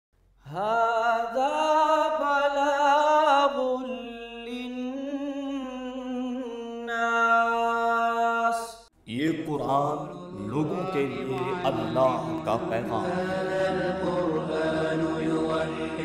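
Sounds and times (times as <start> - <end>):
person singing wordless notes: 0.6 - 16.0.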